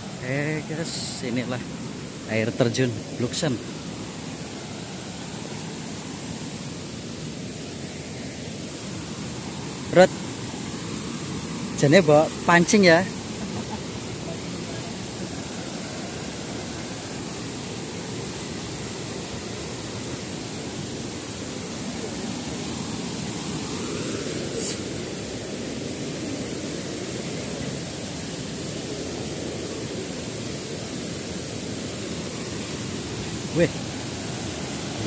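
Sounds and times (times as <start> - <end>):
small waterfall rushing: 0.0 - 35.0.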